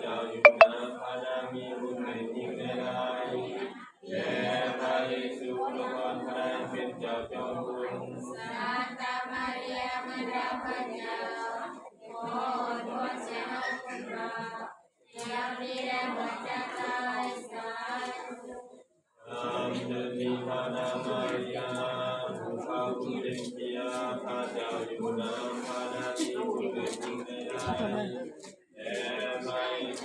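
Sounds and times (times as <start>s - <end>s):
group singing a hymn: 0.0s - 18.6s, 19.2s - 30.0s.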